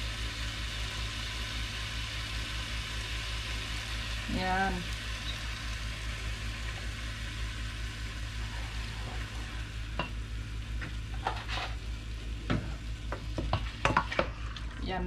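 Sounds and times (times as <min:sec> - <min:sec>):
chicken sizzling in oil: 0:00.0 - 0:14.9
low steady hum: 0:00.0 - 0:15.0.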